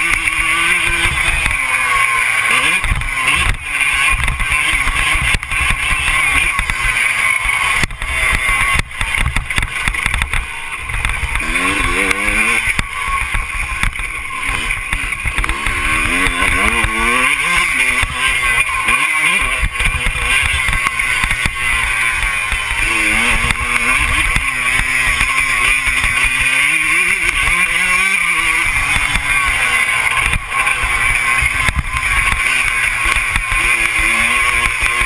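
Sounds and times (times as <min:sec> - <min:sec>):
motocross bike engine revving: 0:00.0 - 0:35.0
steady rushing noise: 0:00.0 - 0:35.0.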